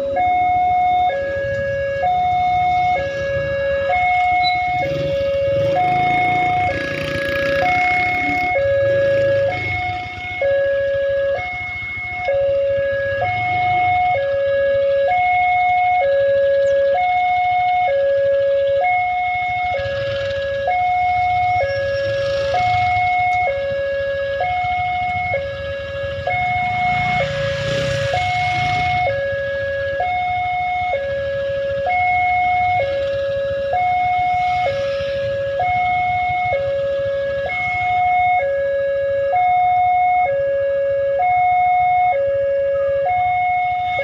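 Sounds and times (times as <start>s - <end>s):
two-tone level crossing alarm: 0.0s - 44.0s.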